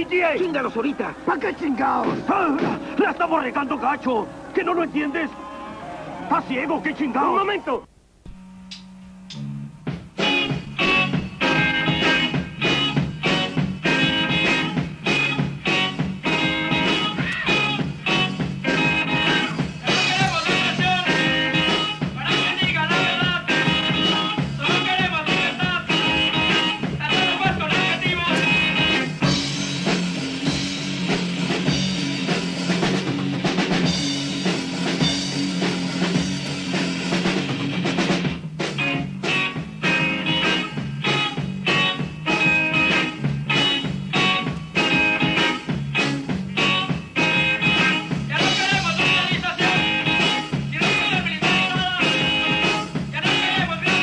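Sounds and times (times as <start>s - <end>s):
drum beat: 0.0s - 3.4s, 9.8s - 54.0s
electric guitar: 8.3s - 54.0s.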